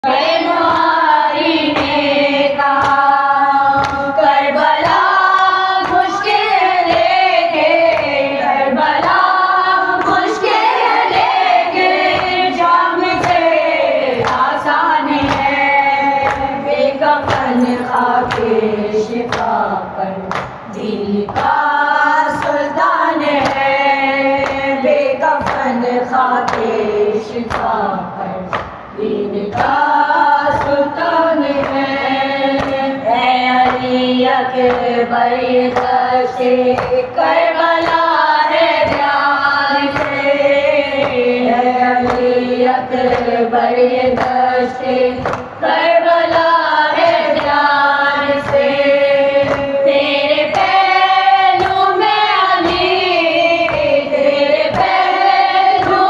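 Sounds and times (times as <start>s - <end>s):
chorus of voices: 0.0s - 56.0s
sharp rhythmic slaps: 0.0s - 56.0s
woman singing a lament: 0.0s - 56.0s.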